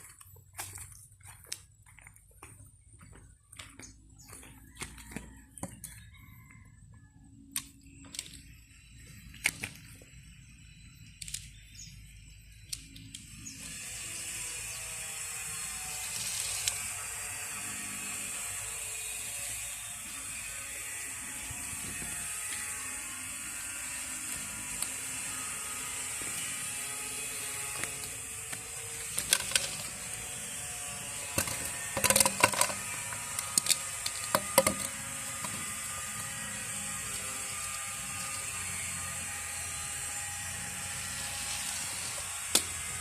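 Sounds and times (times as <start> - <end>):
mechanical toy whirring: 7.4 - 43.0.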